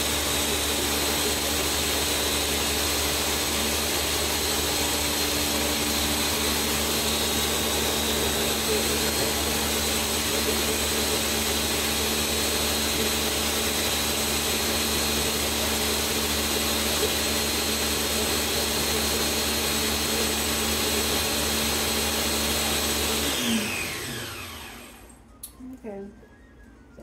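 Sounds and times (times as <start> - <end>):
blender motor running: 0.0 - 25.3.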